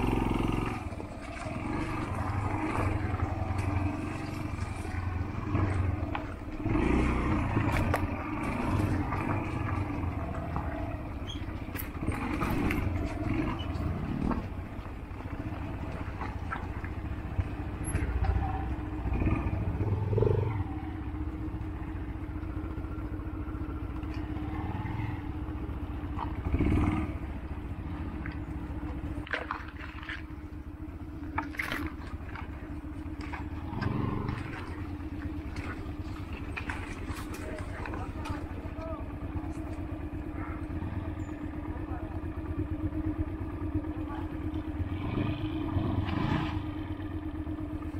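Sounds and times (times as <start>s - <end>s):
motorcycle engine running: 0.0s - 47.9s
motorcycle rattling on bumps: 0.0s - 47.9s.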